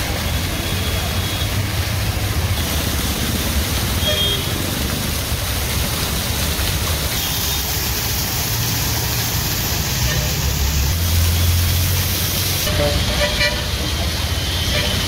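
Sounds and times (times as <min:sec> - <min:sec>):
fountain water splashing: 0:00.0 - 0:15.0
road traffic rumble: 0:00.0 - 0:15.0.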